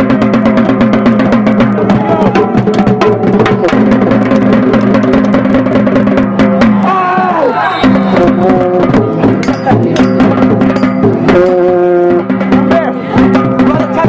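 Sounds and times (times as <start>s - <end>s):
music with fast percussion beat: 0.0s - 14.0s.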